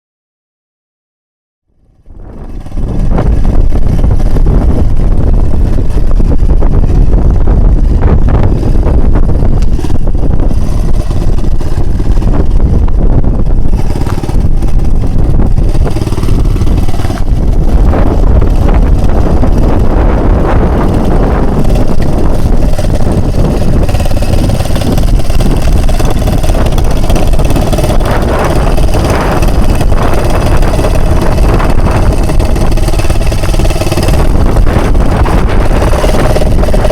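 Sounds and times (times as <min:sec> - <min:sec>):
outboard motor running: 0:01.8 - 0:36.9
wind buffeting microphone: 0:01.8 - 0:36.9.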